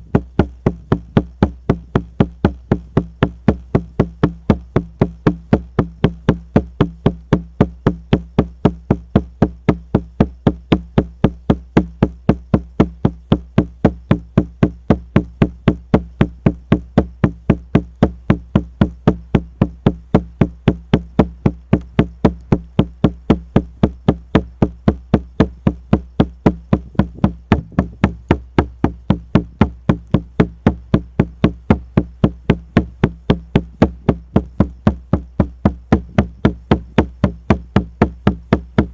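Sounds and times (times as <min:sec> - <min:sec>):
frame drum beating: 0:00.0 - 0:38.9.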